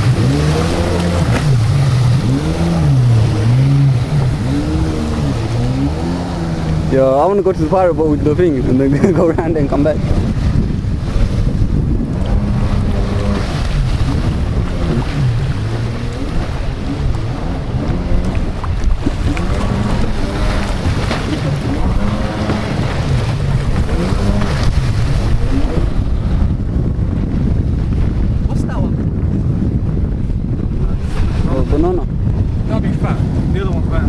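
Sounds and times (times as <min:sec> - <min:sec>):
watercraft engine revving: 0:00.0 - 0:34.0
wind buffeting microphone: 0:00.0 - 0:34.0.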